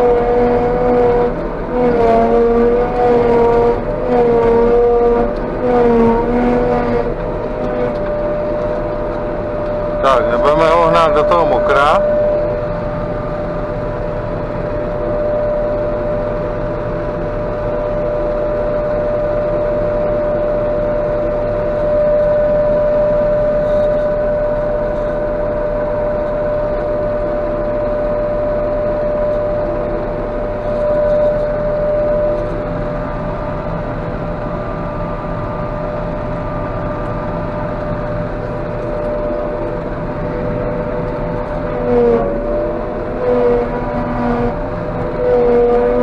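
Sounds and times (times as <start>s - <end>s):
forage harvester machine drone: 0.0s - 46.0s
high machine whine: 0.0s - 46.0s.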